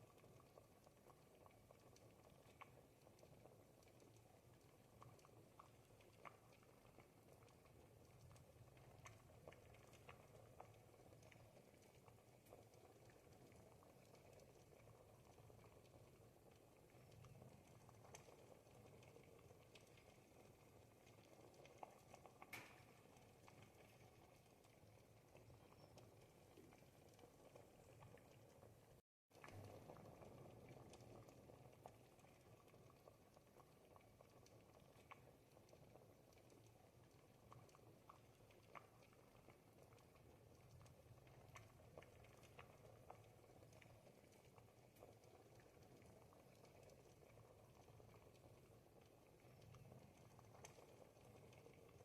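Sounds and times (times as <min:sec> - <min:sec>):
soup simmering in a pot: 0:00.0 - 0:52.0.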